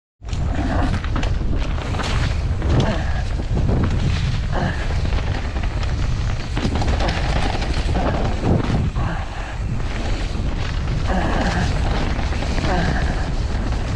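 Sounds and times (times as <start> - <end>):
wind rumbling on microphone: 0.2 - 13.9
bike clattering over bumps: 0.3 - 13.9
bike tyres rolling on dirt: 0.3 - 13.9.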